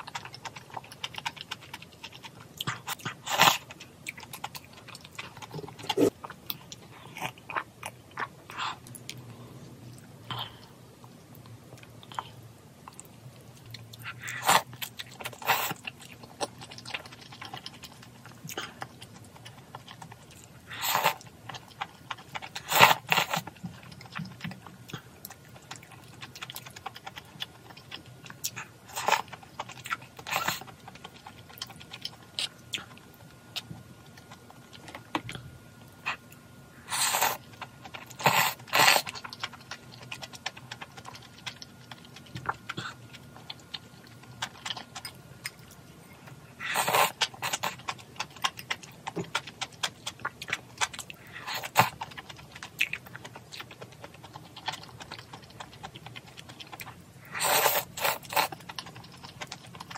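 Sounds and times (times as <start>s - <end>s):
person chewing and crunching food: 0.0s - 59.9s.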